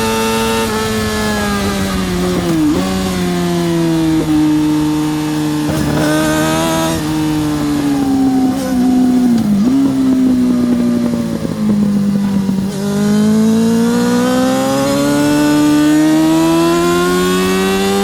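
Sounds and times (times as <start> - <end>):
motorcycle engine at high revs: 0.0 - 18.0
motorcycle passing: 0.0 - 18.0.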